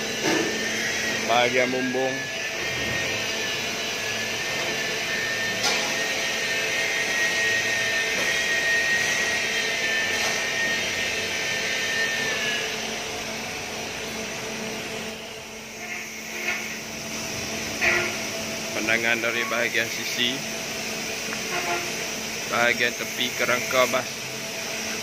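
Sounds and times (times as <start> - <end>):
workshop machine whining: 0.0 - 25.0.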